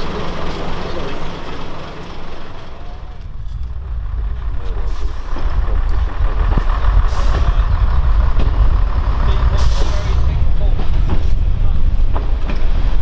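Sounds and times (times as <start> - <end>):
diesel train engine rumble: 0.0 - 13.0.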